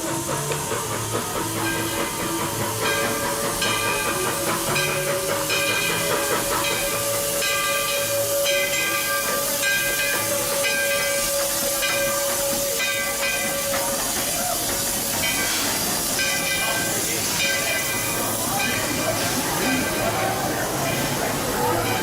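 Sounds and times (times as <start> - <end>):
steam hiss: 0.0 - 22.0.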